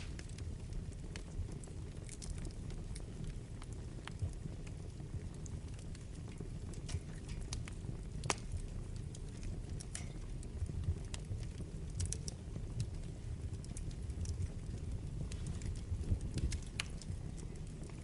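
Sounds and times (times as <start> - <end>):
fire crackles and pops: 0.0 - 18.0
wood fire low rumble: 0.0 - 18.0.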